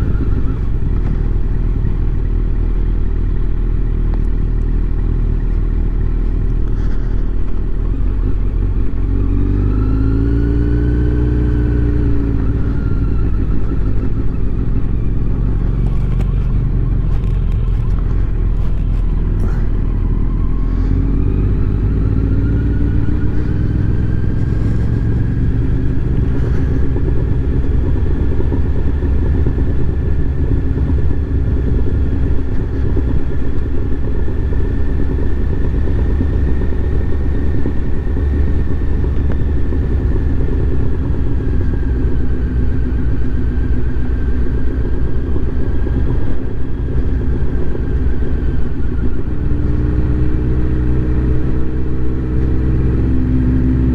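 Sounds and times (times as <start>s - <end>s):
motorcycle engine running: 0.0s - 53.9s
wind rumble on microphone: 0.0s - 53.9s.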